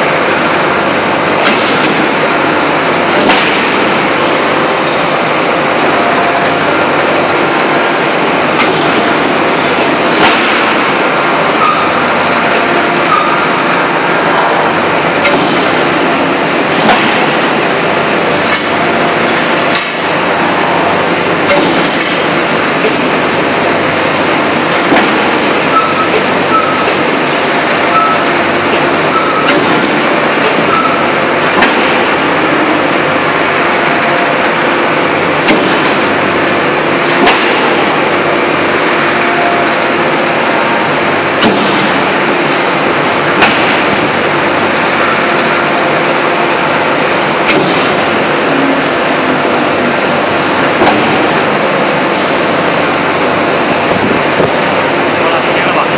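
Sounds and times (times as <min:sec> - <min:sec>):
forging press machinery noise: 0:00.0 - 0:55.9.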